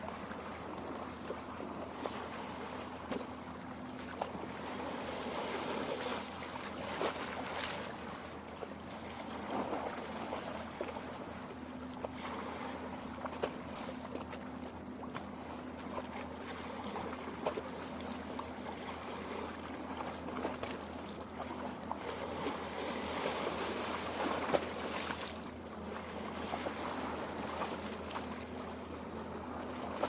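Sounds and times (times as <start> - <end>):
water lapping at shore: 0.0 - 30.0.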